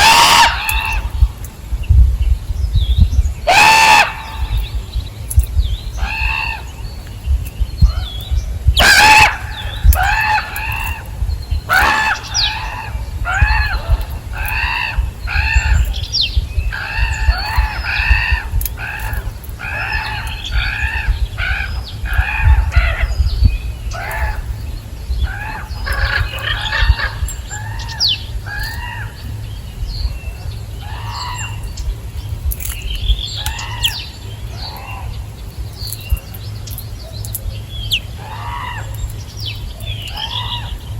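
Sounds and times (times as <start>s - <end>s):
birds calling harshly: 0.0s - 40.9s
low rumble: 0.0s - 40.9s.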